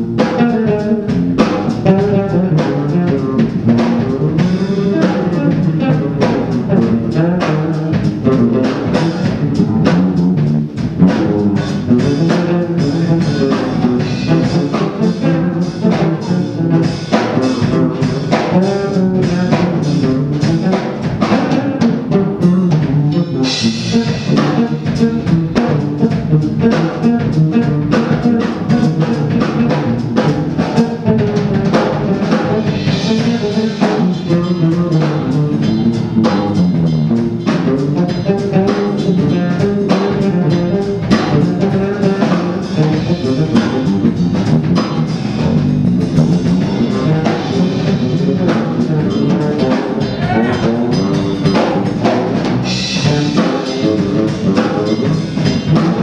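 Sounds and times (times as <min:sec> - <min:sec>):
drum kit groove: 0:00.0 - 0:56.0
electric bass solo: 0:00.0 - 0:56.0.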